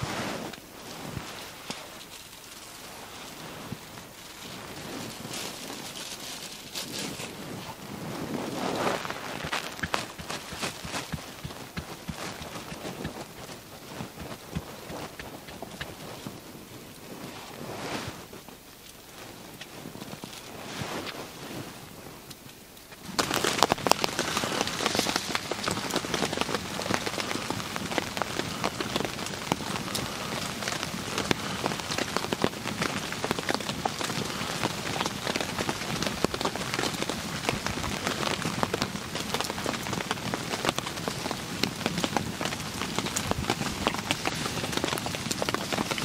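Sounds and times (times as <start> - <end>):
quiet hiss: 0.0 - 46.0
rain pattering on tarp: 0.0 - 46.0.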